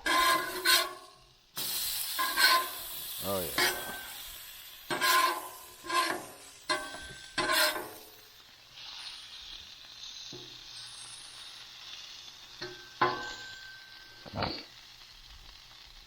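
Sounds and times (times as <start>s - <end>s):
metal spatula scraping griddle: 0.0s - 14.8s
food sizzling on a griddle: 0.0s - 16.0s.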